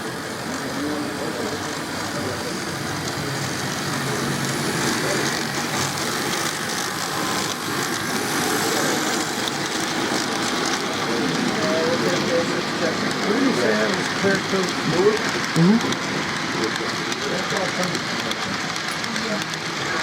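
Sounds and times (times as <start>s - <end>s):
model locomotive engine sound: 0.0s - 20.0s
murmur of voices: 0.0s - 20.0s.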